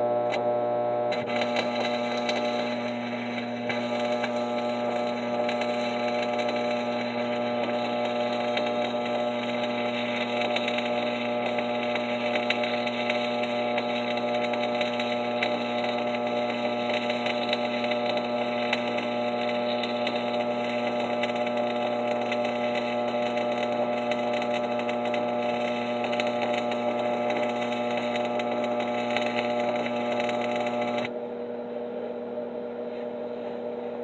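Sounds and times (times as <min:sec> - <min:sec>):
welding arc crackling: 0:00.0 - 0:31.1
electrical hum: 0:00.0 - 0:34.0.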